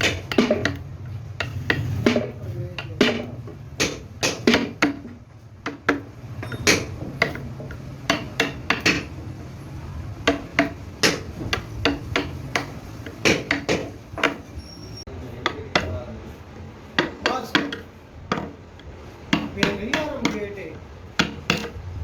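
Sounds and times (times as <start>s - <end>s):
tools knocking hard material: 0.0s - 9.5s, 10.2s - 14.6s, 15.3s - 21.9s.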